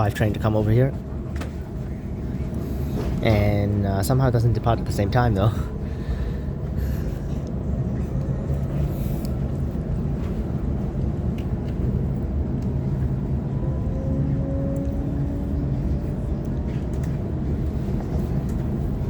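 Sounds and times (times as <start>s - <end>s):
train cabin low rumble: 0.0s - 19.0s
faint rising whine: 0.6s - 19.0s.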